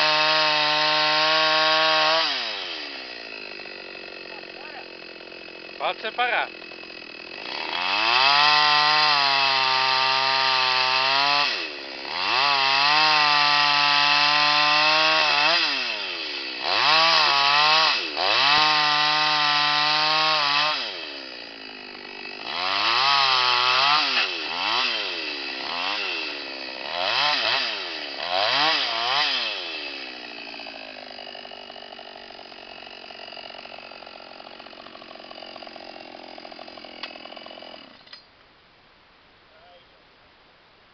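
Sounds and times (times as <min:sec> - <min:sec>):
chainsaw cutting log: 0:00.0 - 0:38.2.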